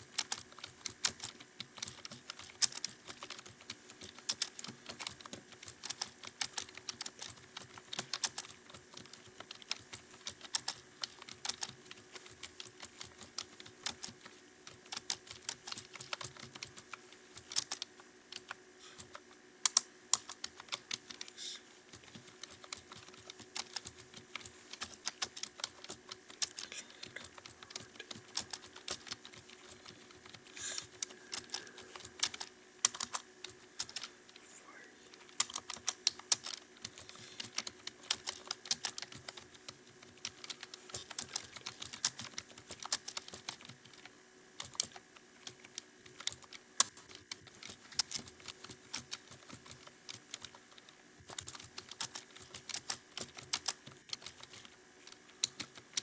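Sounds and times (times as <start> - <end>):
typing on computer keyboard: 0.0 - 34.4, 35.2 - 56.0.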